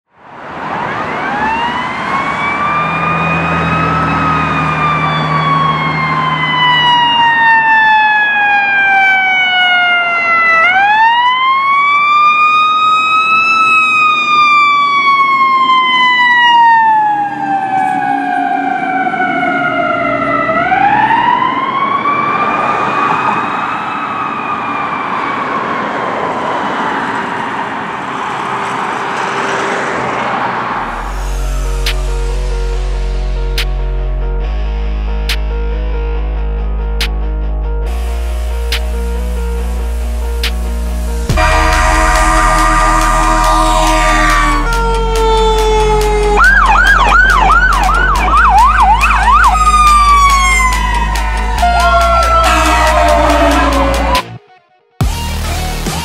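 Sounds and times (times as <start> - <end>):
fire engine siren wailing: 0.2 - 35.0, 37.8 - 55.0.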